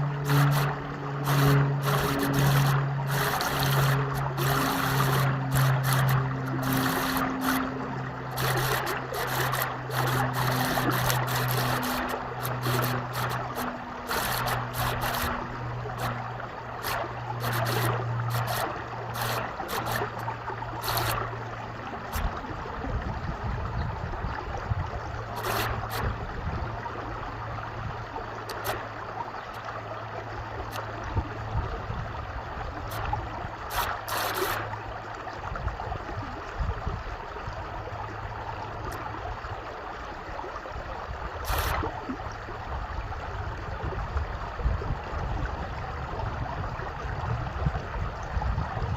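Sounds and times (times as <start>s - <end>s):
low steady hum: 0.0s - 48.9s
stream water flowing and trickling: 0.0s - 48.9s.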